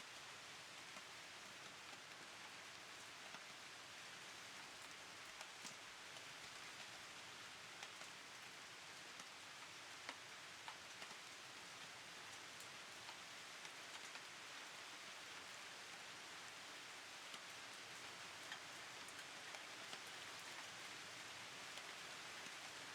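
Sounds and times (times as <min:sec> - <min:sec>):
steady rain hiss: 0:00.0 - 0:22.9.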